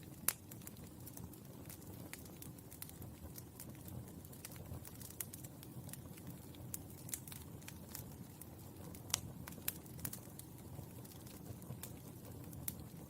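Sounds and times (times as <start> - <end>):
burning charcoal crackling: 0.0 - 13.0.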